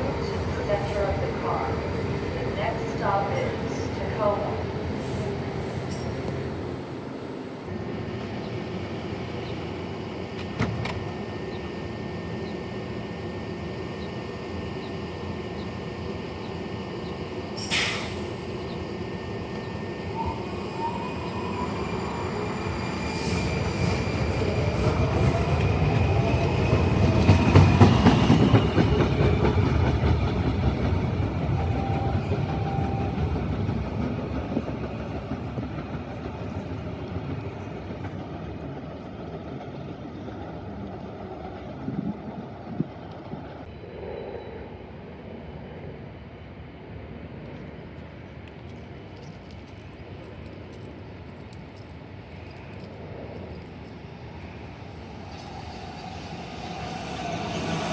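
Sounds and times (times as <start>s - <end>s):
train rumbling past: 0.0s - 57.9s.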